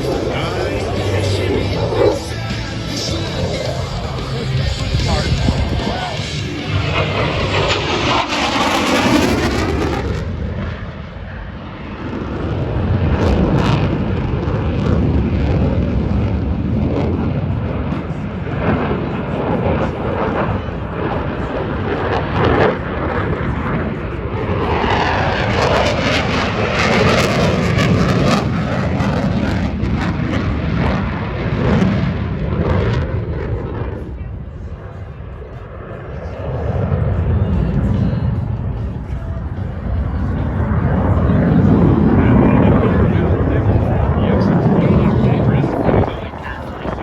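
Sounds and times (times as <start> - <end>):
fighter jet flying past: 0.0 - 47.0.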